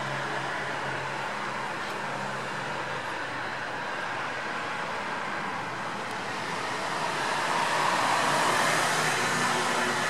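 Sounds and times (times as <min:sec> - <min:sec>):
street traffic noise: 0:00.0 - 0:10.0.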